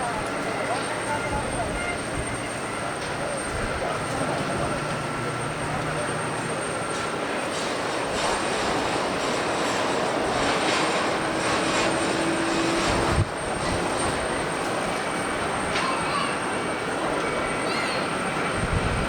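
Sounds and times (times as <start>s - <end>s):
jet airliner engine rush: 0.0s - 19.0s.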